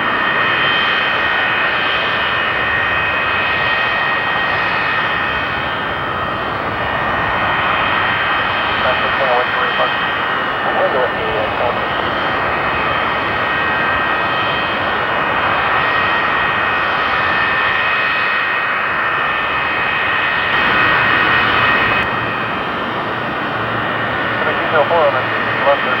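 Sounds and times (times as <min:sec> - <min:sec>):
jet engines roaring with whine: 0:00.0 - 0:26.0.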